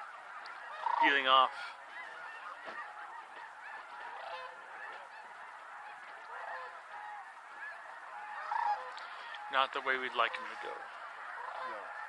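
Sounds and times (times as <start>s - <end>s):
flock of geese honking: 0.0s - 12.0s.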